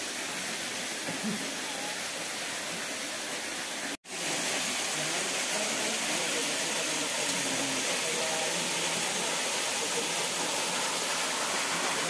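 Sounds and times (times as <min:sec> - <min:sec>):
stream and waterfall flowing: 0:00.0 - 0:12.0.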